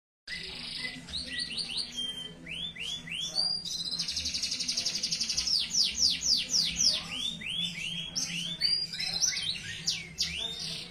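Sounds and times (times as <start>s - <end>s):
canary singing: 0.3s - 10.9s.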